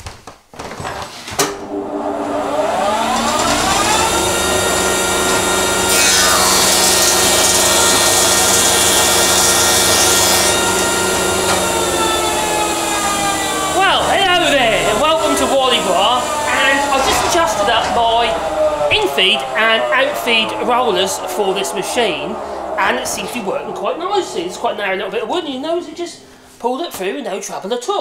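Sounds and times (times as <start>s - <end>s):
planer motor running: 1.7s - 26.4s
high-pitched wood cutting noise: 2.5s - 26.7s.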